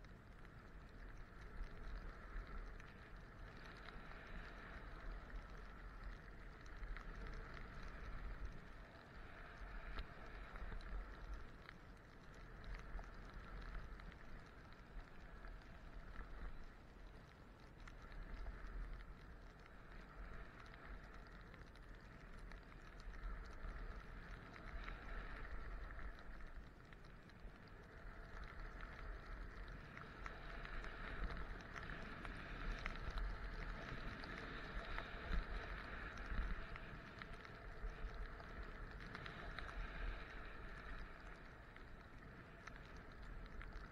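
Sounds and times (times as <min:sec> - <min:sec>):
small clicks: 0:00.0 - 0:43.9
wind rumbling on microphone: 0:00.0 - 0:43.9.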